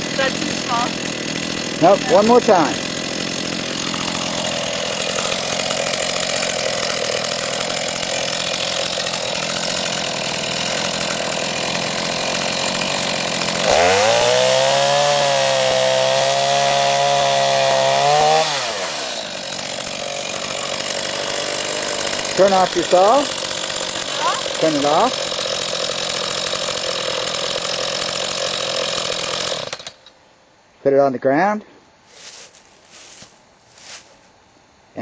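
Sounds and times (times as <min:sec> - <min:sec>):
chainsaw cutting log: 0:00.0 - 0:30.1.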